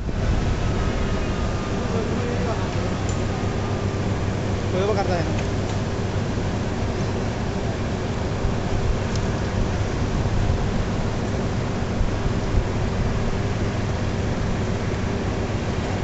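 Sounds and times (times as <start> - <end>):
continuous even rush: 0.0 - 16.0
low machine hum: 0.0 - 16.0.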